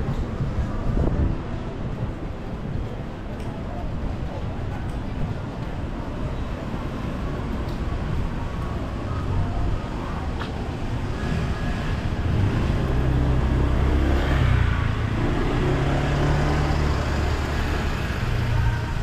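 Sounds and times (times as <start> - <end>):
street noise: 0.0 - 19.0.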